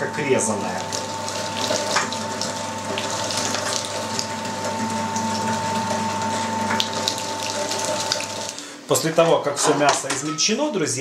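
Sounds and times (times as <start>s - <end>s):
electric meat grinder whine: 0.0s - 9.1s.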